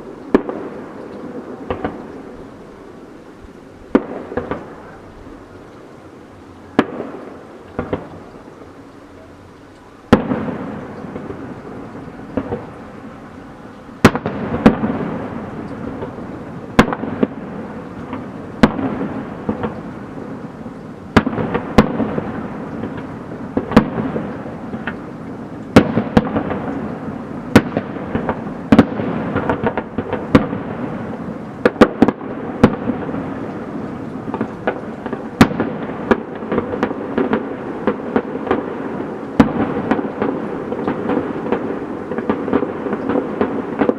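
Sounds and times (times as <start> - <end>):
fireworks crackling and rumbling: 0.0 - 43.9.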